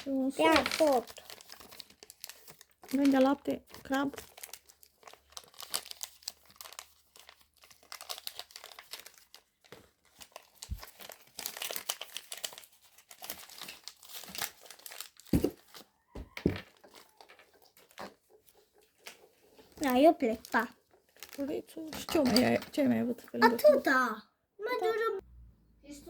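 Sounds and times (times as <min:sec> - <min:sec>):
plastic wrappers crinkling: 0:00.0 - 0:22.9.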